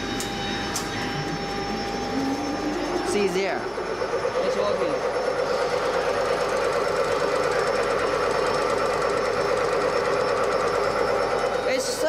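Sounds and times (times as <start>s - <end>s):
machine whir with fast rattle: 0.0s - 12.0s.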